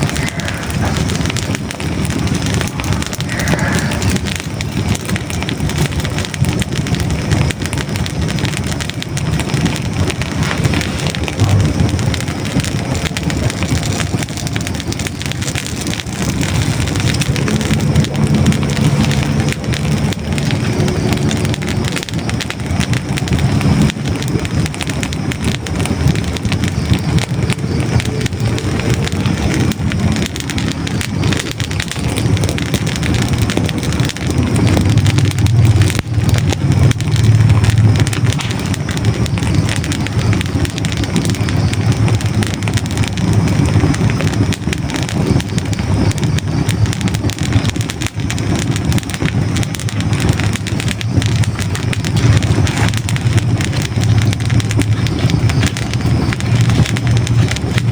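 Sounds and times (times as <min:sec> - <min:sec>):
fire crackling and popping: 0:00.0 - 0:57.9
low rumble of flames: 0:00.0 - 0:57.9.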